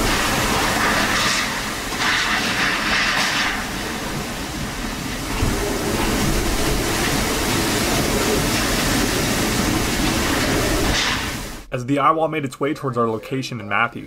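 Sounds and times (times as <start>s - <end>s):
driving rain: 0.0s - 11.7s
strong wind buffeting microphone: 0.0s - 11.7s.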